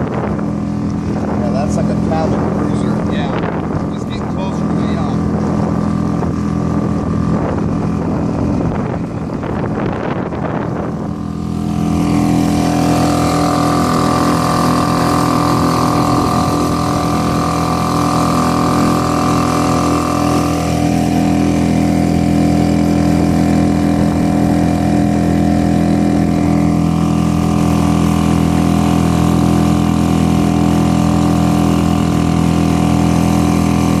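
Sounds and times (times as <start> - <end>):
outboard motor drone: 0.0 - 34.0
wind and water rushing: 0.0 - 34.0.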